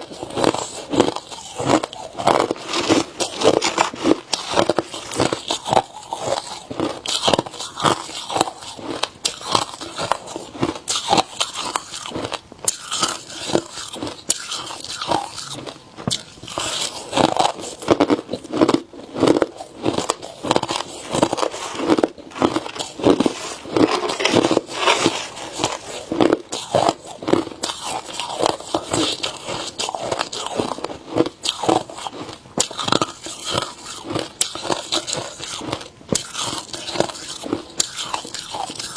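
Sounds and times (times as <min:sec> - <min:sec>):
ice crunching between teeth: 0:00.0 - 0:38.9.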